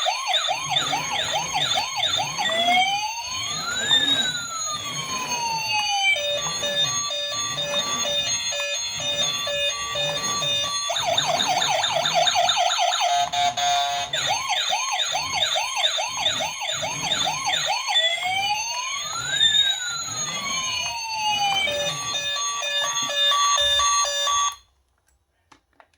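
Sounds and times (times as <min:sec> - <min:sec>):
toy police siren: 0:00.0 - 0:24.6.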